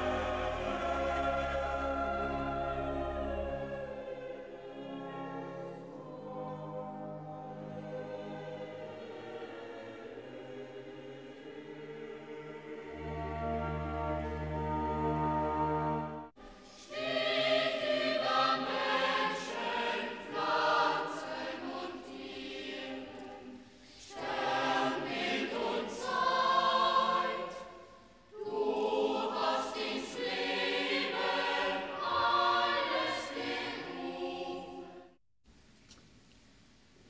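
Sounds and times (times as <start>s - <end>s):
boys' choir singing: 0.0s - 15.0s, 16.8s - 35.1s.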